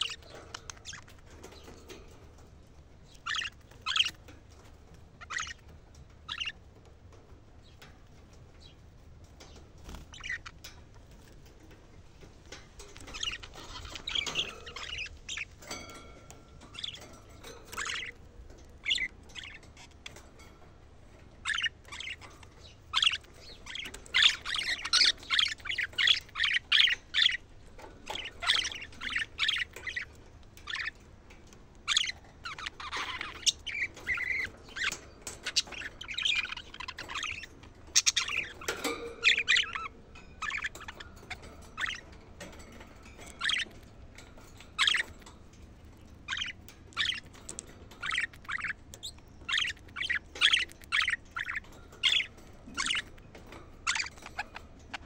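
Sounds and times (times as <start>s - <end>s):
budgerigars chirping and warbling: 0.0s - 55.0s.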